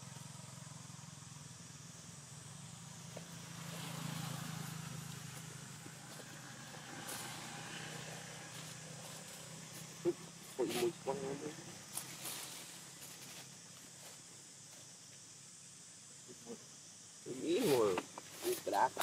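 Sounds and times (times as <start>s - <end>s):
vehicle engine humming: 0.0s - 16.2s.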